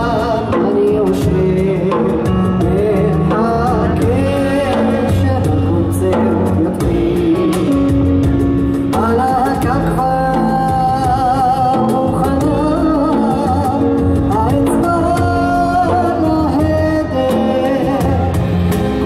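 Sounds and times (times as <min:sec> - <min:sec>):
bass: 0:00.0 - 0:19.0
man singing: 0:00.0 - 0:19.0
percussion: 0:00.0 - 0:19.0
stage piano chords: 0:00.0 - 0:19.0.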